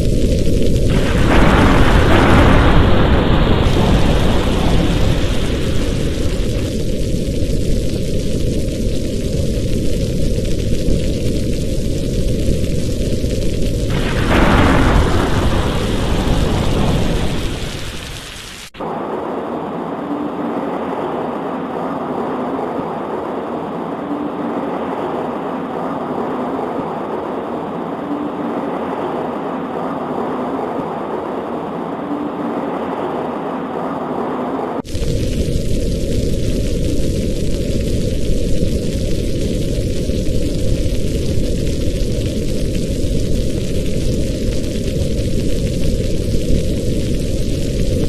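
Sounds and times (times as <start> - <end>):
rolling thunderclap: 0.0 - 33.4, 34.8 - 48.0
rain on a window: 0.0 - 48.0.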